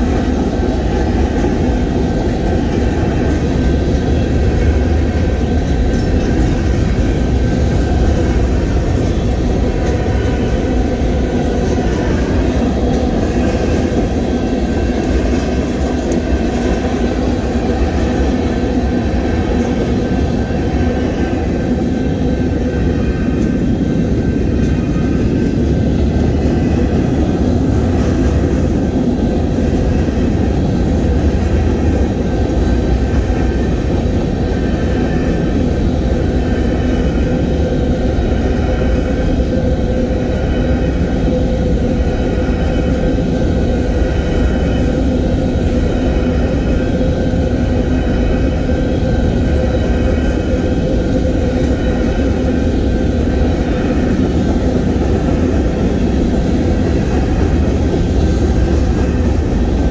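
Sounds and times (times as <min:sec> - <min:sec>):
steel train wheels on rails: 0:00.0 - 0:59.9.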